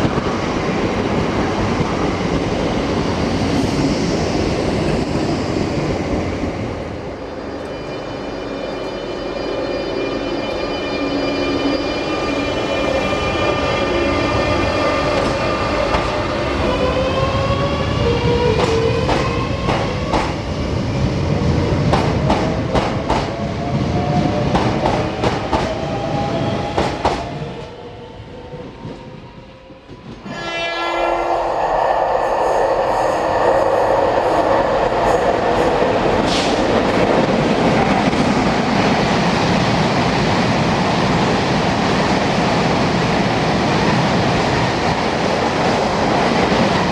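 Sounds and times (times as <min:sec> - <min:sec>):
train passing loudly: 0:00.0 - 0:46.9.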